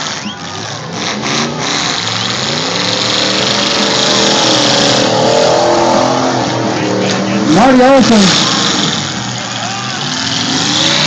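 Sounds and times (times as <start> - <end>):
car engines revving hard: 0.0 - 11.0.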